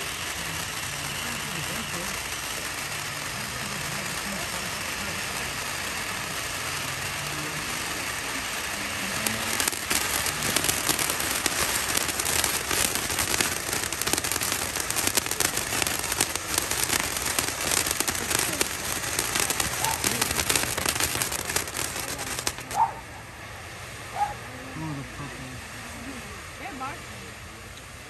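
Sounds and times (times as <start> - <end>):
firework fountain hissing and crackling: 0.0 - 28.0.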